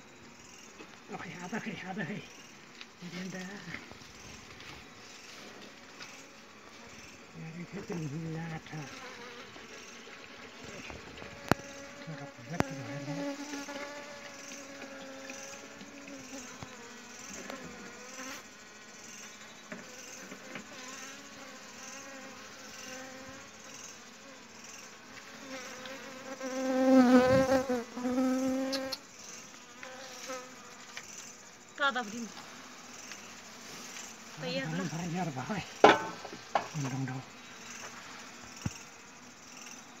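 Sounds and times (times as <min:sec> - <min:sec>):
bees buzzing: 0:03.8 - 0:40.0.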